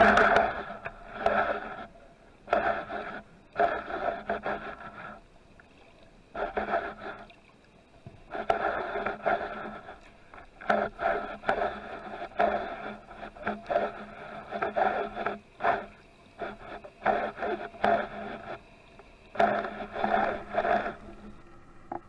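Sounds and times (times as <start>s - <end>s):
underwater scraping: 0.0s - 7.4s, 8.0s - 22.0s
water rush: 0.0s - 22.0s.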